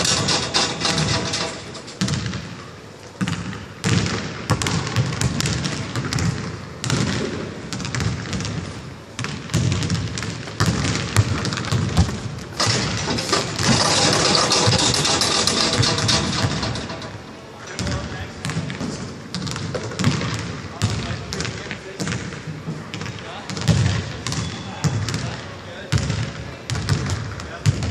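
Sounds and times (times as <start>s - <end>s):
basketball bouncing on wood floor: 0.1s - 2.5s, 3.2s - 8.6s, 9.2s - 17.0s, 17.8s - 25.2s, 25.9s - 27.9s.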